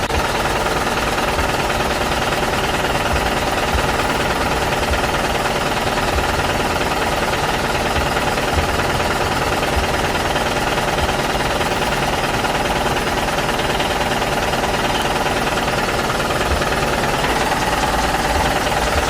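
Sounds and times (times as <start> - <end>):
toy trucks motors buzzing: 0.0 - 19.0.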